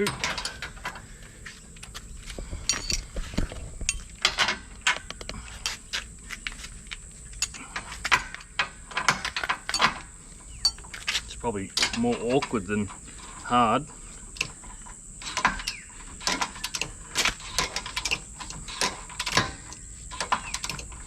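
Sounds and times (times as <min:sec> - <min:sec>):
spanners clinking on metal: 0:00.0 - 0:01.0, 0:02.6 - 0:05.0, 0:07.3 - 0:21.0.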